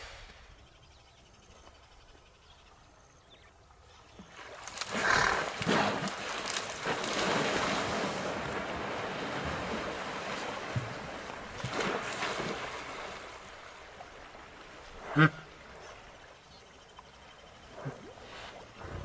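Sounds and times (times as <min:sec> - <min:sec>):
rushing water or wind: 0:03.2 - 0:19.0.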